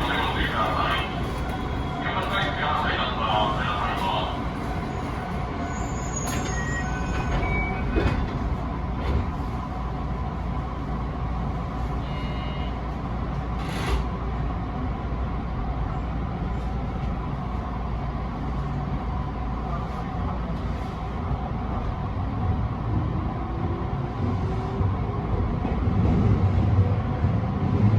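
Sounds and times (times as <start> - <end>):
train rumble and hiss: 0.0 - 27.9.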